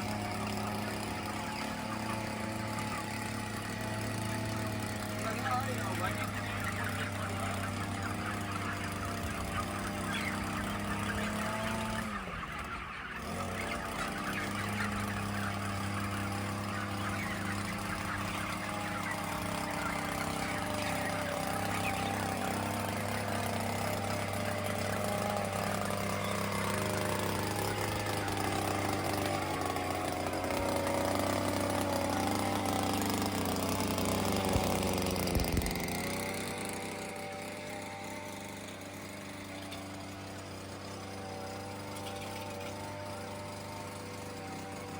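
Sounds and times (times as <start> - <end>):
chickens calling: 0.0 - 44.9
ventilation fans humming: 0.0 - 44.9.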